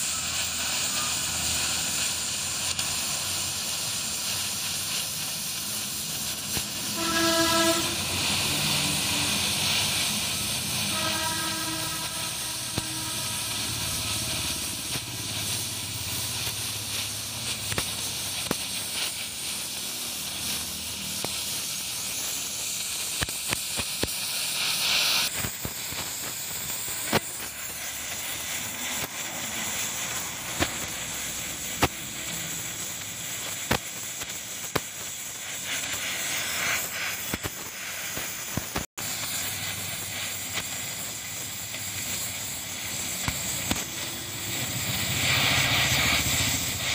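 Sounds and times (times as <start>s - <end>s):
sharp pops: 0.0s - 8.0s, 9.6s - 19.4s, 22.8s - 46.9s
welding torch flame hissing: 0.0s - 46.9s.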